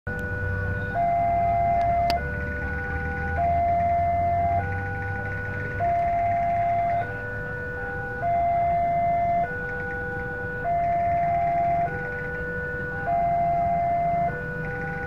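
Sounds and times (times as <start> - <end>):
level crossing two-tone alarm: 0.1 - 15.0
low rumble of traffic: 0.1 - 15.0.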